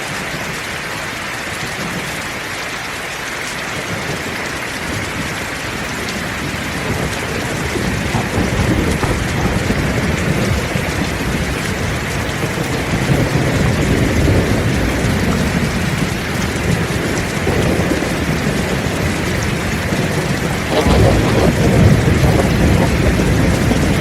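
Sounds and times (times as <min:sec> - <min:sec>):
heavy rain falling: 0:00.0 - 0:24.0
low rumble of thunder: 0:03.8 - 0:24.0.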